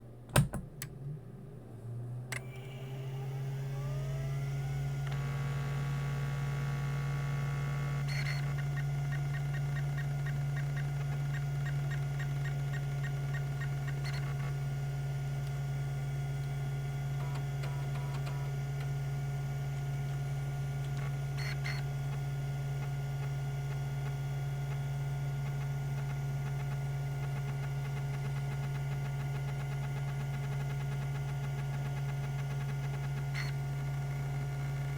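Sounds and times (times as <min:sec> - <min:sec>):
spindle motor whine and hum: 0:00.8 - 0:34.9.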